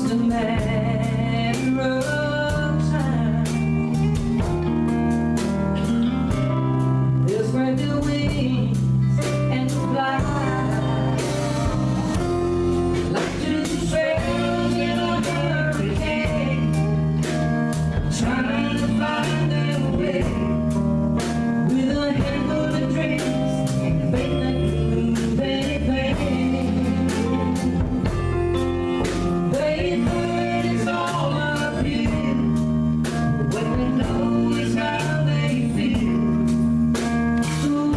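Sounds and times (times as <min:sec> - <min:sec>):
woman singing country song: 0:00.0 - 0:04.9, 0:06.9 - 0:12.3, 0:12.9 - 0:37.9
band with guitars and drums: 0:00.0 - 0:37.9.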